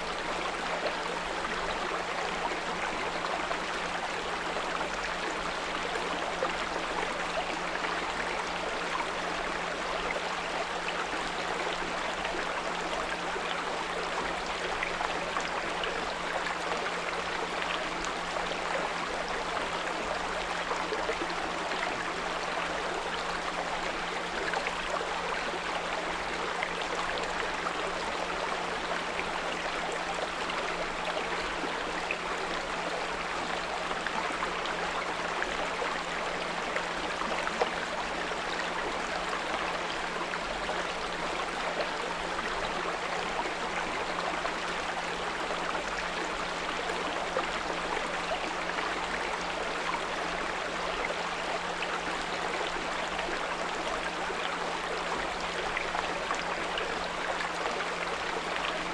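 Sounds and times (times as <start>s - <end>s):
brook trickling: 0.0s - 58.9s.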